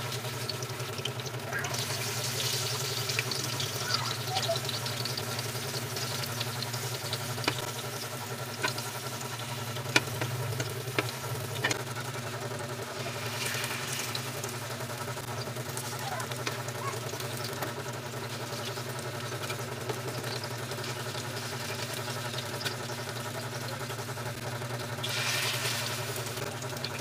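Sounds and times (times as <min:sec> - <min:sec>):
fritters sizzling in oil: 0:00.0 - 0:27.0.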